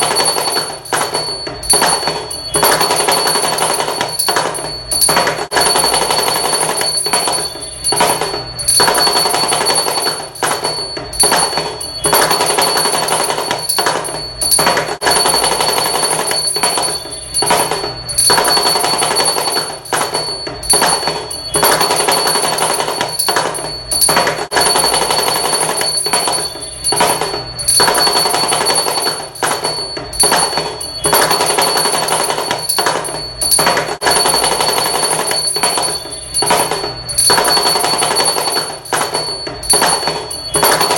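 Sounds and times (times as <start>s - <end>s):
steady high ringing tone: 0.0s - 40.9s.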